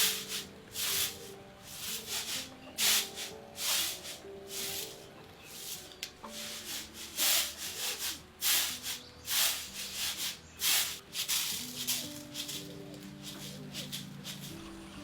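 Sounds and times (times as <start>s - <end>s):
rough scraping strokes: 0.0s - 14.6s
soft background music: 0.0s - 15.0s.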